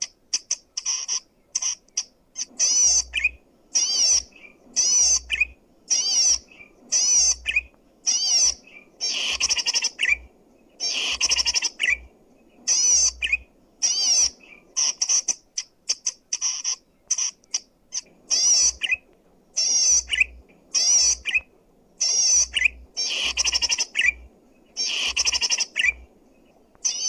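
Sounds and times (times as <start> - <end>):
bird buzzy chattering song: 0.0 - 27.0.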